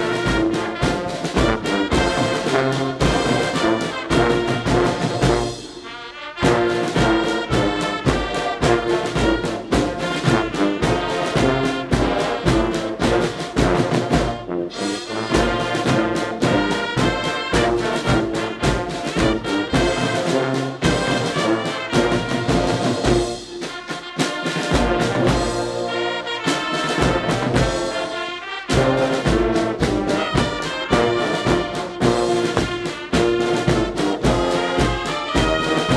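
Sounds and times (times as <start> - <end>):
steady drumbeat: 0.0 - 35.9
trumpets and trombones: 0.0 - 35.9.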